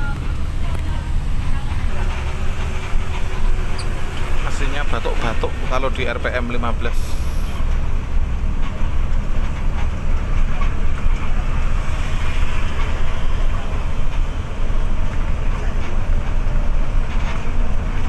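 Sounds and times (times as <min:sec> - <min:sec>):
coach engine drone: 0:00.0 - 0:18.0
road noise: 0:00.0 - 0:18.0.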